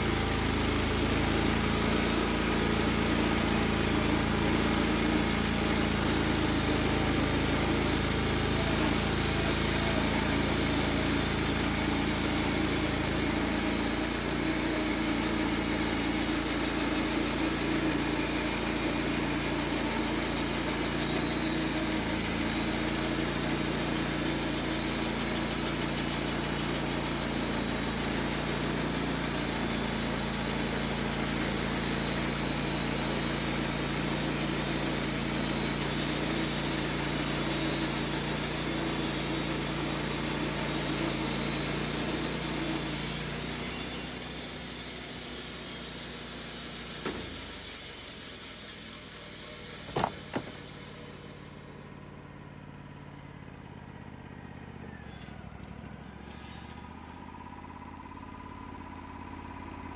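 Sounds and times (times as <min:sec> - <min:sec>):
sawmill engine humming: 0:00.0 - 0:56.2.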